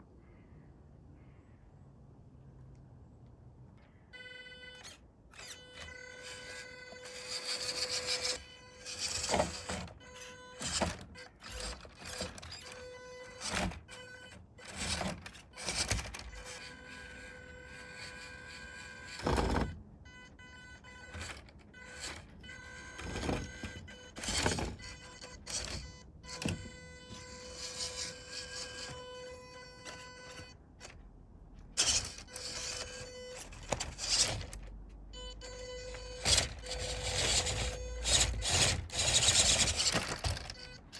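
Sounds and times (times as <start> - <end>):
toy car motor whine: 4.2 - 31.0, 31.7 - 40.9.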